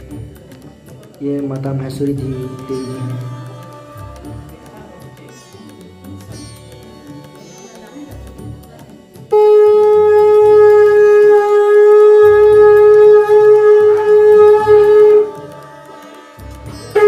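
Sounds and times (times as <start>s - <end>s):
music with low rhythmic beat: 0.0s - 17.0s
conch shell blown: 1.4s - 17.0s.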